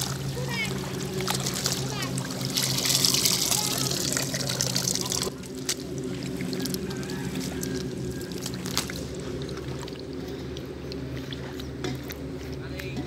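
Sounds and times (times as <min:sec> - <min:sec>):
hand squelching through mud and water: 0:00.0 - 0:11.8
low engine drone: 0:00.0 - 0:13.0.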